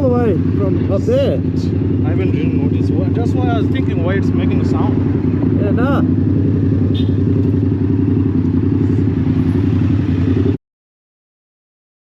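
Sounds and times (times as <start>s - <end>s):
vehicle running drone: 0.0s - 10.6s.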